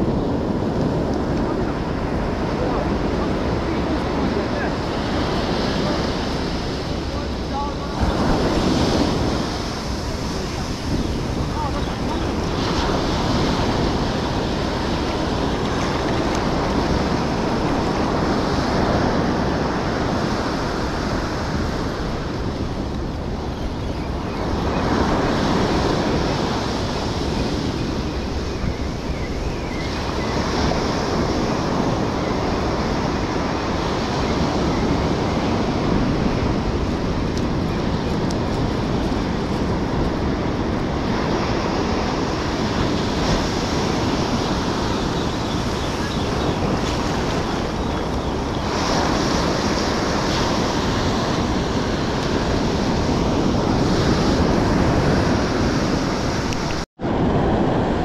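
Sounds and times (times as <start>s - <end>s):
ocean surf breaking on beach: 0.0s - 58.0s
wind rumbling on microphone: 0.0s - 58.0s.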